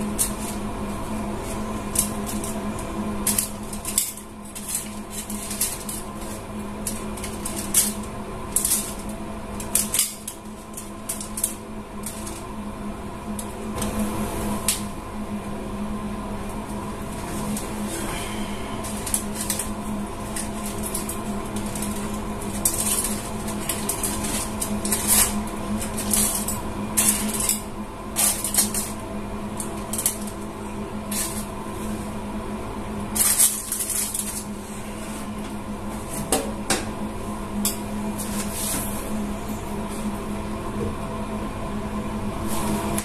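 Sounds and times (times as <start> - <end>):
kitchen appliance humming: 0.0 - 43.0.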